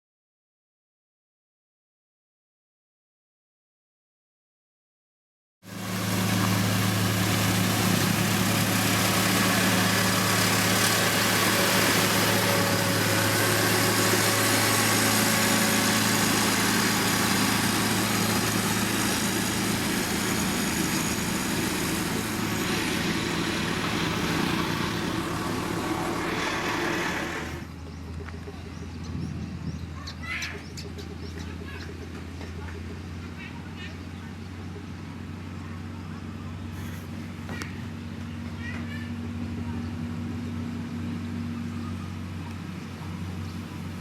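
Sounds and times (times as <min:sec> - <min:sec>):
diesel engine of heavy machinery: 0:05.7 - 0:44.0.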